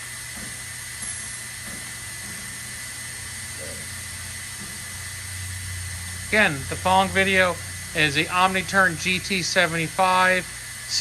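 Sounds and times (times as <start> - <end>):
lathe running idle: 0.0 - 11.0.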